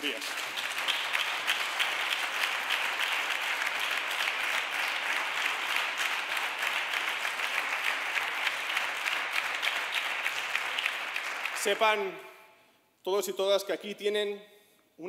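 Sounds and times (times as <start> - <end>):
audience clapping: 0.0 - 12.1.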